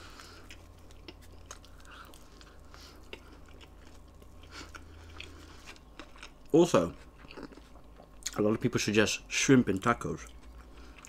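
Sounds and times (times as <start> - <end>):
person chewing: 0.0 - 8.4, 10.2 - 11.0.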